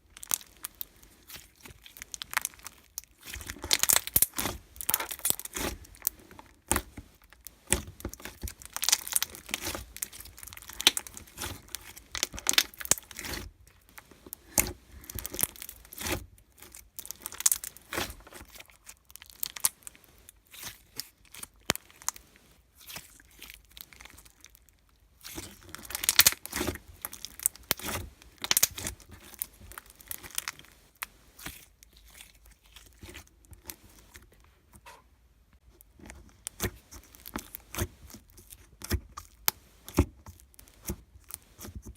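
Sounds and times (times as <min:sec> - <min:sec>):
crinkling and tearing by hand: 0:00.0 - 0:34.9, 0:35.6 - 0:41.9.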